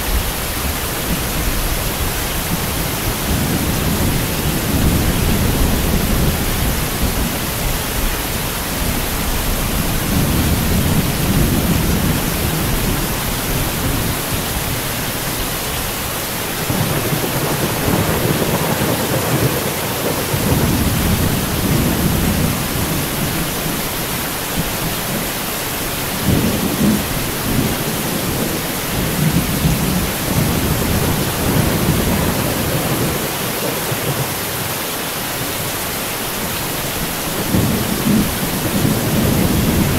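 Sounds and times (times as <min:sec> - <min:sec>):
heavy rain hissing: 0:00.0 - 0:39.9
thunder rumbling: 0:01.1 - 0:15.6, 0:16.5 - 0:25.4, 0:26.0 - 0:34.4, 0:37.2 - 0:39.9.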